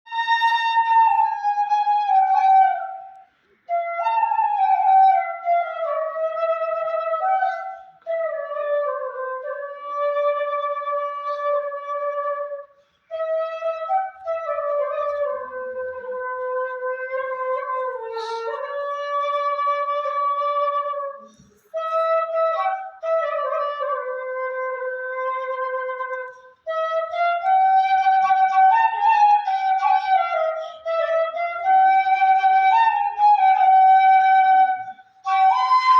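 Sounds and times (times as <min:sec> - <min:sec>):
solo flute melody: 0:00.0 - 0:35.9.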